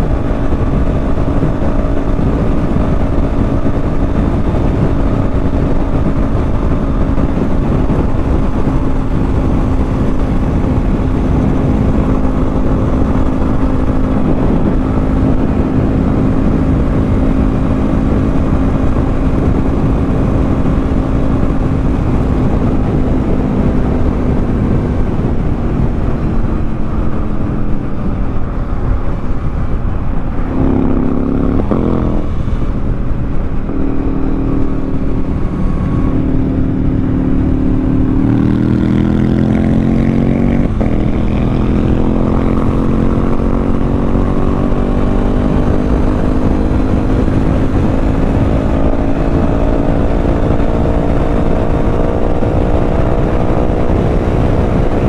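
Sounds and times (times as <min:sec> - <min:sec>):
heavy wind noise: 0:00.0 - 0:55.0.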